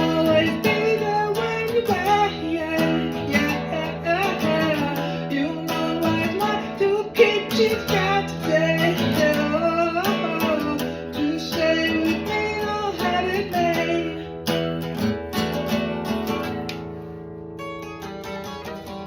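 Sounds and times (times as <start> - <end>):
acoustic guitar strummed and picked: 0.0 - 19.0.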